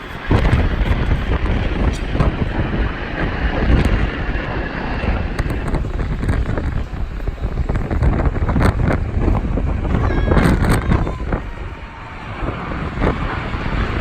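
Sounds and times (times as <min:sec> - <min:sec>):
jet engines: 0:00.0 - 0:14.0
wind buffeting microphone: 0:00.0 - 0:14.0.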